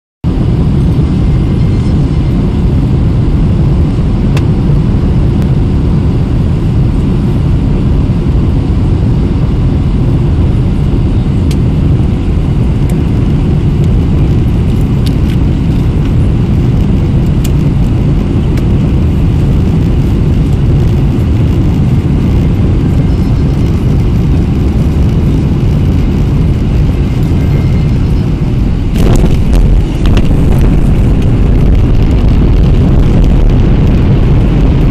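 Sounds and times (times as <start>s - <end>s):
airplane cabin engine rumble: 0.2s - 34.9s.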